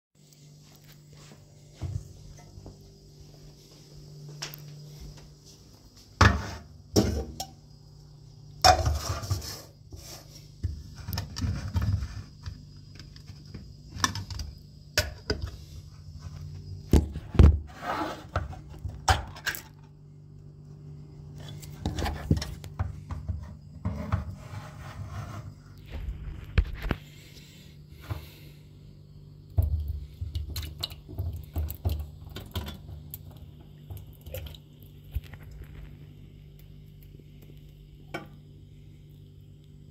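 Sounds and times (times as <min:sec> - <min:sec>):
steady low hum: 0:00.2 - 0:39.9.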